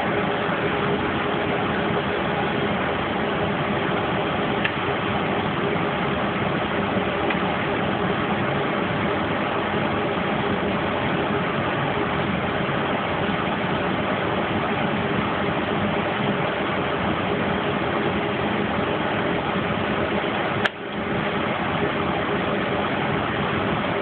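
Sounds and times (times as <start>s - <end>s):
steady hissing drone: 0.0s - 24.0s.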